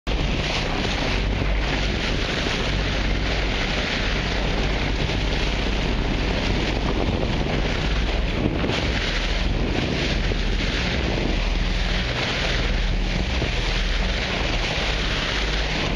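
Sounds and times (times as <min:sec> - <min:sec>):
choppy sea water hissing: 0:00.1 - 0:15.9
wind buffeting microphone: 0:00.1 - 0:15.9.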